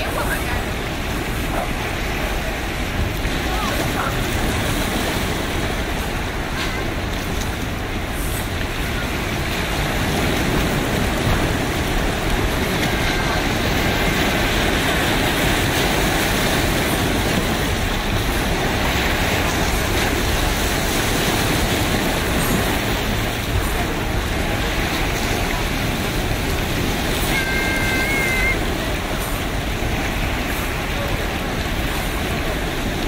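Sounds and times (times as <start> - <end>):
waves washing over rocks and pebbles: 0.0 - 33.0.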